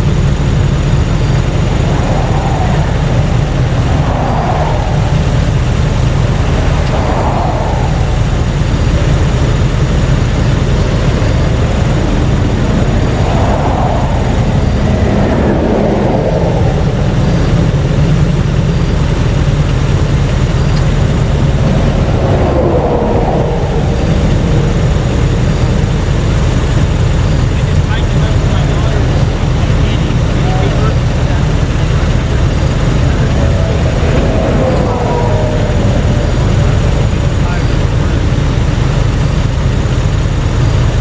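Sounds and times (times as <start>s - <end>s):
highway traffic rumble: 0.0s - 41.0s
vehicles passing: 0.0s - 41.0s.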